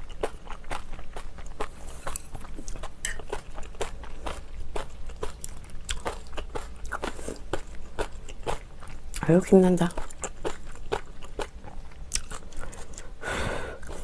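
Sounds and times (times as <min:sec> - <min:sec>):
crunchy chewing: 0:00.0 - 0:09.3, 0:09.9 - 0:13.2.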